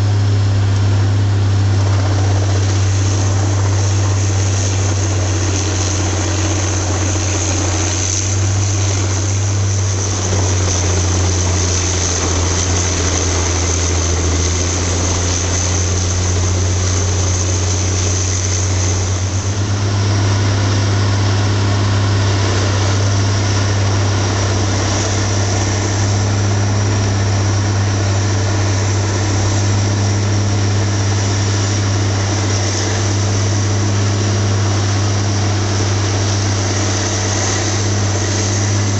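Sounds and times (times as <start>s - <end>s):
engine running with whine: 0.0s - 38.9s.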